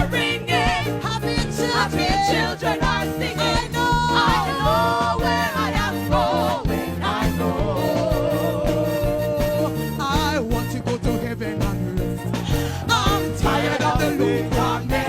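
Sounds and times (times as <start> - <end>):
band playing steady beat: 0.0 - 15.0
person singing gospel: 0.0 - 15.0.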